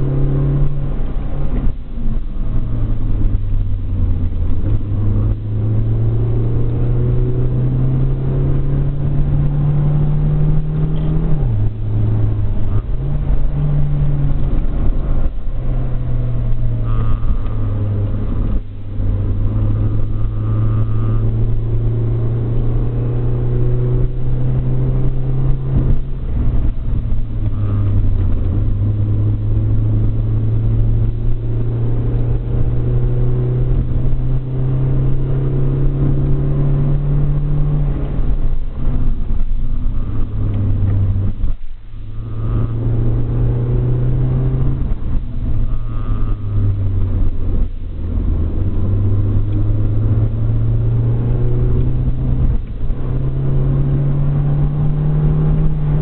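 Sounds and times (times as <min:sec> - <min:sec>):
car engine from inside cabin: 0:00.0 - 0:56.0
road noise: 0:00.0 - 0:56.0.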